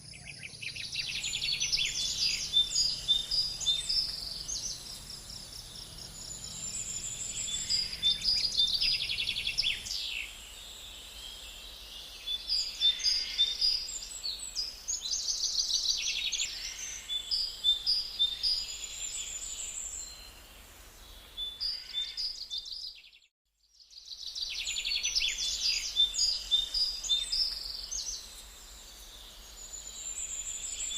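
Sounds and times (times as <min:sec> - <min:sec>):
songbirds singing: 0:00.0 - 0:30.9.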